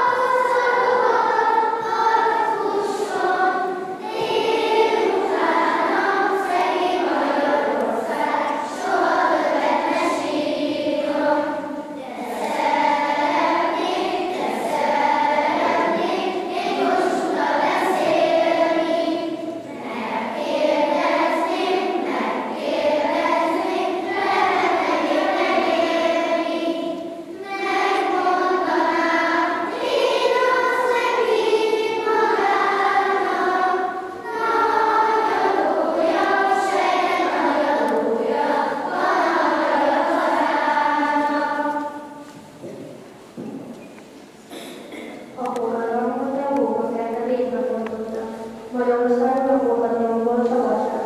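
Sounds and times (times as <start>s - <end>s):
children's choir singing: 0.0s - 51.0s.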